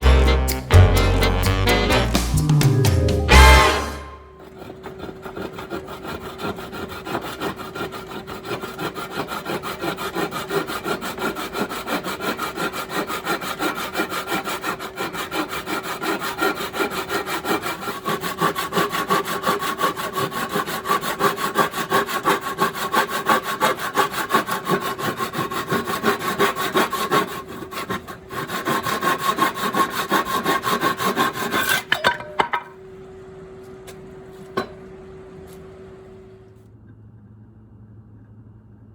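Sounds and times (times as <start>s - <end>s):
saw cutting wood: 0.0s - 32.6s.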